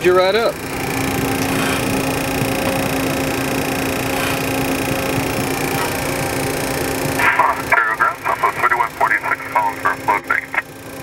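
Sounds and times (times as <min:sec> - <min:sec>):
jet engines idling: 0:00.0 - 0:11.0.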